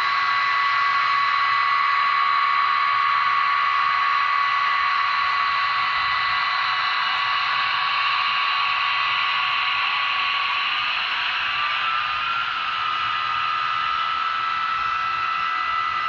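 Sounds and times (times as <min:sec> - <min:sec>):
model train whining: 0:00.0 - 0:16.0.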